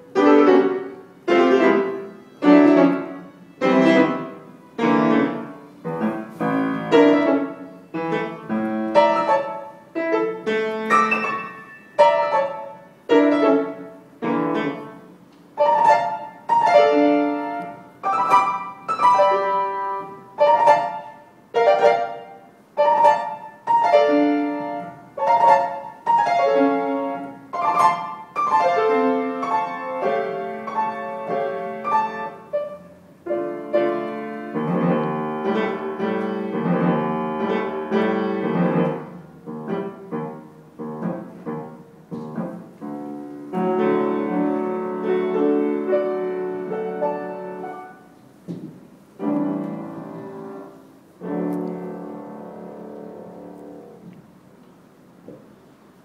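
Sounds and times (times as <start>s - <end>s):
grand piano playing: 0.0s - 56.0s.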